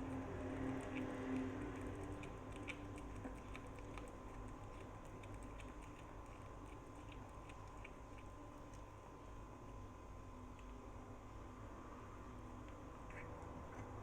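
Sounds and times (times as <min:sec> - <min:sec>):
cat chewing and crunching food: 0:00.0 - 0:14.0
faint steady hum: 0:00.0 - 0:14.0.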